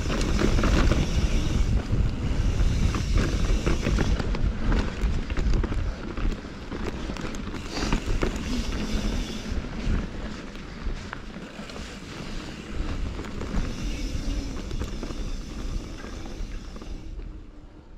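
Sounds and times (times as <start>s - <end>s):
tyres rolling on dirt: 0.0s - 17.3s
bike clicks and rattles: 0.0s - 17.9s
wind rumbling on microphone: 0.0s - 17.9s.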